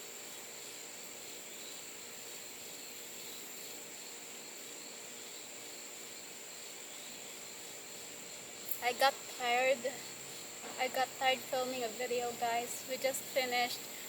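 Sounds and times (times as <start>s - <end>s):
faint outdoor background noise: 0.0s - 14.0s
insects trilling: 0.0s - 14.0s.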